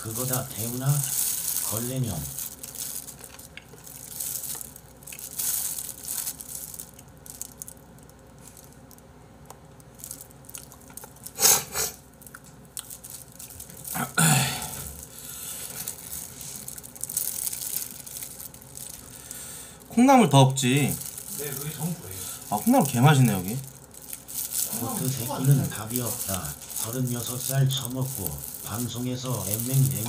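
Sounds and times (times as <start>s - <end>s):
plastic gloves crinkling: 0.0s - 30.0s.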